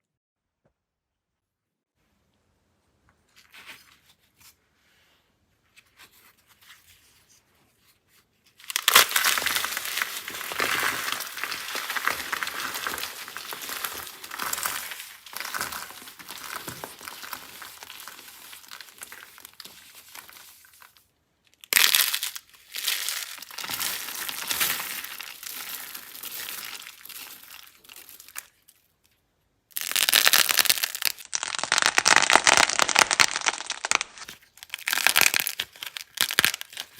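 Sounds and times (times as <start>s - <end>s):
dry soap crackling: 6.0s - 36.9s.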